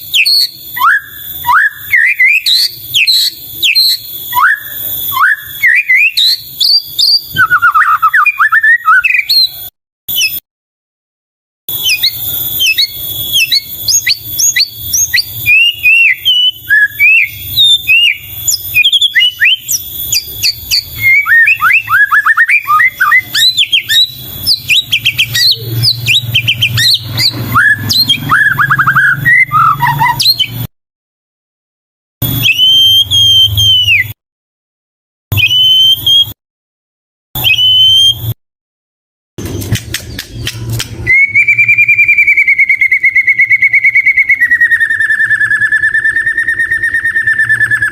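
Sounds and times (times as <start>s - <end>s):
bird singing whistles and chatter: 0.0s - 10.4s, 11.7s - 30.7s, 32.2s - 34.2s, 35.3s - 36.4s, 37.4s - 38.4s, 40.0s - 47.9s.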